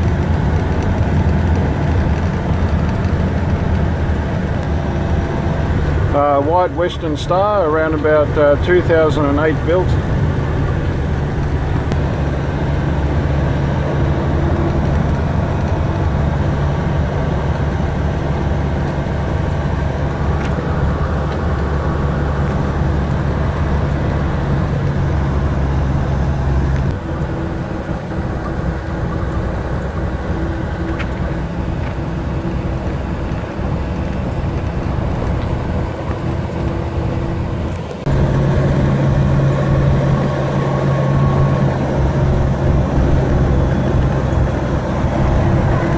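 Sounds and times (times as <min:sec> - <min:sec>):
road noise: 0:00.0 - 0:45.9
truck diesel engine drone: 0:00.0 - 0:45.9.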